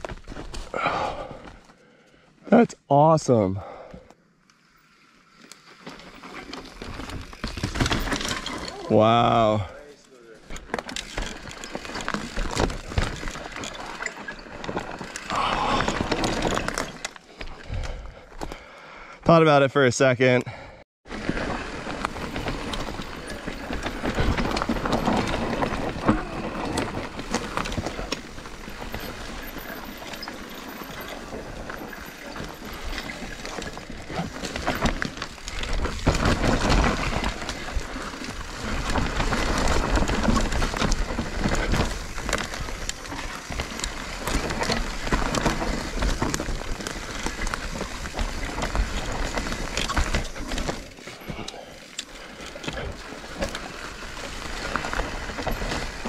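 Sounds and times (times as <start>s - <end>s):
bike tyres crunching over dirt: 0.0s - 2.2s, 4.6s - 18.7s, 21.1s - 56.0s
bike rattling and clicking: 4.5s - 18.7s, 21.1s - 56.0s.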